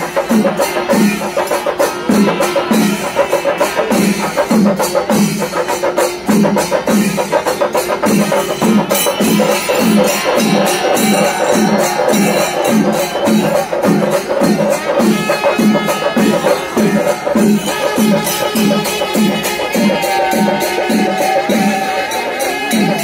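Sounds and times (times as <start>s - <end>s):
rattling percussion: 0.0s - 23.0s
steady drumbeat: 0.0s - 23.0s.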